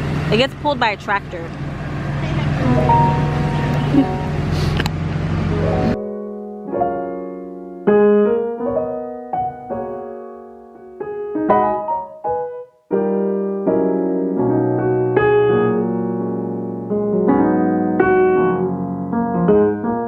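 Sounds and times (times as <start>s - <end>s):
slow piano music: 2.5s - 20.0s.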